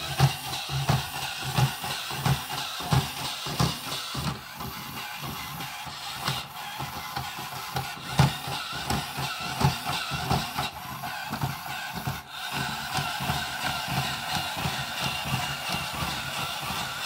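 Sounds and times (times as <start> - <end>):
electric motors whirring: 0.0 - 17.0.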